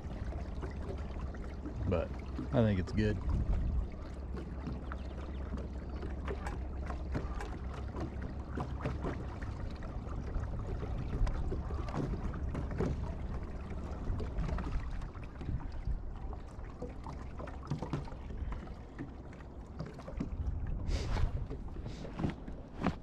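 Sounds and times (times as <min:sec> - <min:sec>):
water lapping against boat hull: 0:00.0 - 0:23.0.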